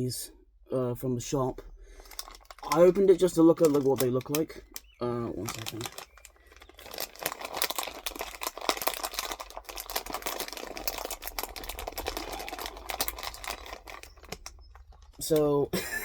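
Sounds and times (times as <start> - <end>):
plastic packet crinkling: 1.9 - 15.6.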